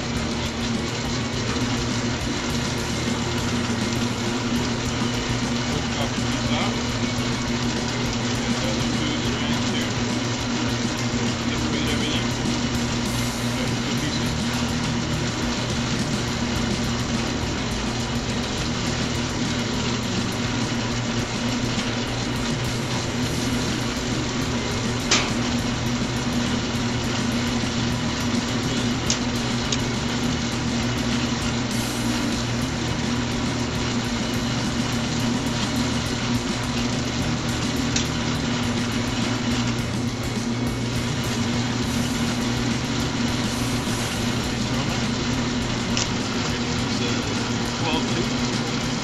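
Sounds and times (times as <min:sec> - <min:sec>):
electric motor humming: 0:00.0 - 0:49.0.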